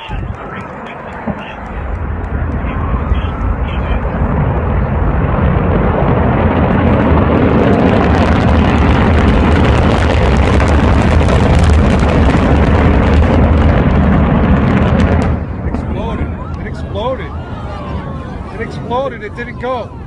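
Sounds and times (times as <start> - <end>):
rocket roaring and crackling: 0.0 - 20.0.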